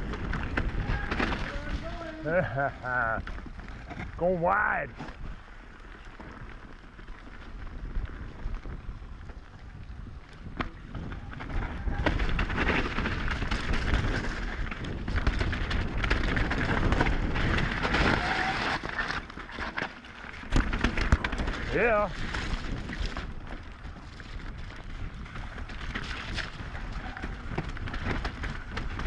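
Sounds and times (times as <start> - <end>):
bike knocks and rattles: 0.0 - 4.3, 6.1 - 29.0
bike tyres rolling through mud: 0.0 - 29.0
wind rumbling on microphone: 0.0 - 29.0.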